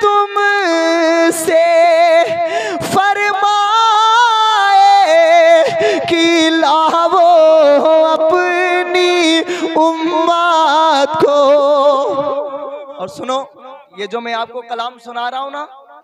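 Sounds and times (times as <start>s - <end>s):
man singing into a microphone: 0.0s - 15.7s.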